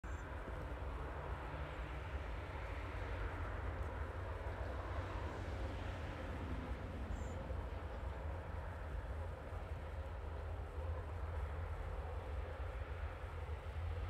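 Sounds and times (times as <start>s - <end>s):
distant diesel train rumble: 0.0s - 14.0s.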